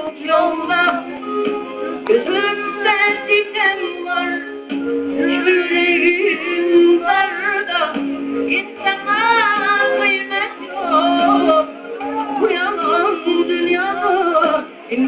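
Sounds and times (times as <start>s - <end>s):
steady held accompanying tone: 0.0s - 15.0s.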